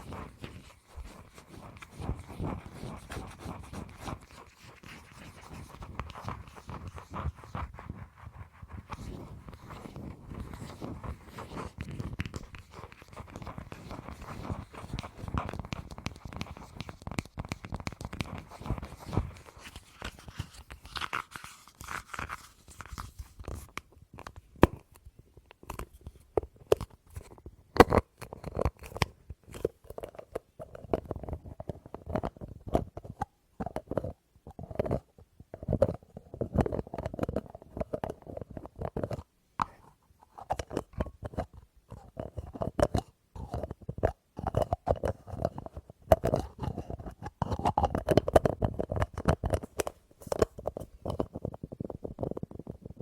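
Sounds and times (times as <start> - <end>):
crackly scratching: 0.0 - 53.0.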